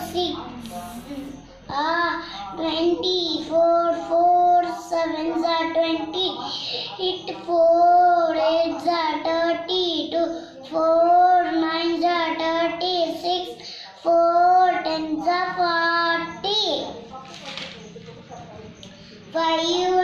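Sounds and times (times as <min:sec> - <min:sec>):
boy chanting sing-song: 0:00.0 - 0:17.0.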